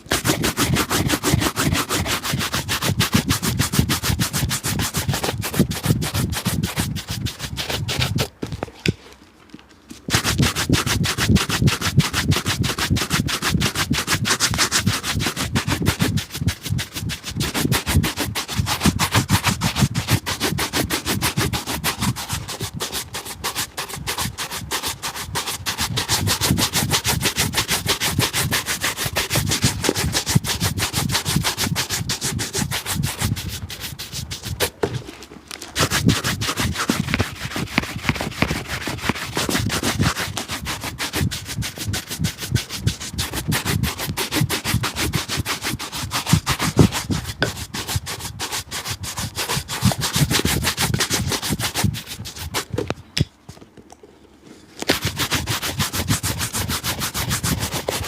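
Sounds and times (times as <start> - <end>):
rubbing strokes polishing shoe: 0.0 - 8.4, 10.0 - 53.0, 54.8 - 58.0.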